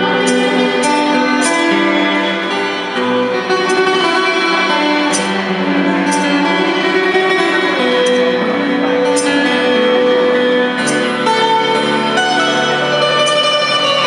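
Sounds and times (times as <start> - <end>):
plucked lute melody: 0.0 - 14.0.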